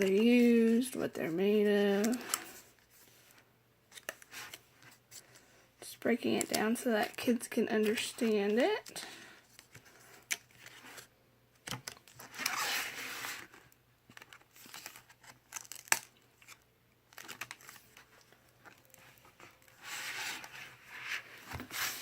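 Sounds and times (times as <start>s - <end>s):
book pages rustling: 0.0s - 5.5s, 6.3s - 22.0s.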